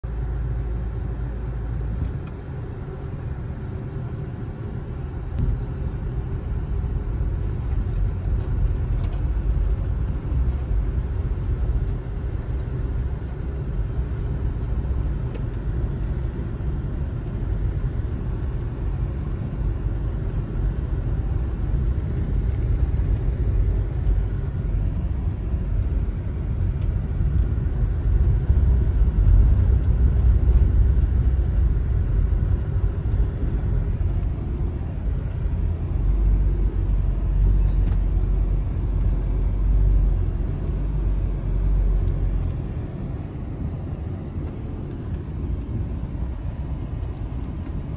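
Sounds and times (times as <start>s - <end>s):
car rumbling on gravel: 5.4s - 47.9s.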